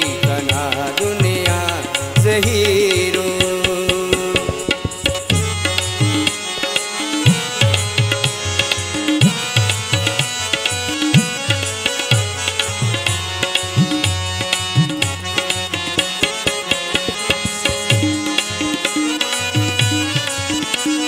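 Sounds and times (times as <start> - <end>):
hand drums beating: 0.0 - 21.0
sustained melody instruments: 0.0 - 21.0.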